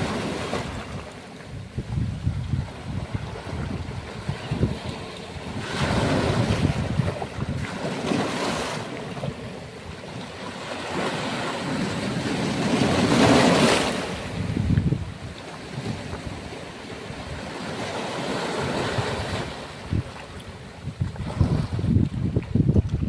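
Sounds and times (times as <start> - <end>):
sea waves breaking on shore: 0.0 - 23.0
wind buffeting microphone: 0.0 - 23.0.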